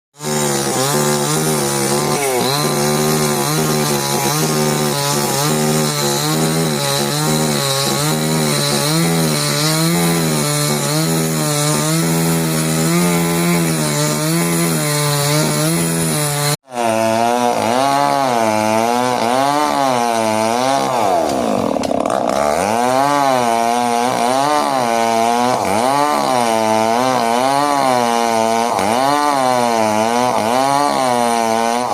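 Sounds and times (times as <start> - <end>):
chainsaw cutting wood: 0.2 - 31.9.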